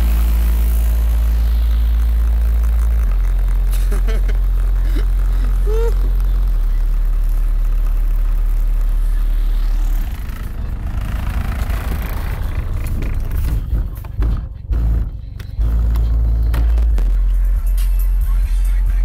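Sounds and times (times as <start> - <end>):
car stereo playing deep bass: 0.0 - 19.0.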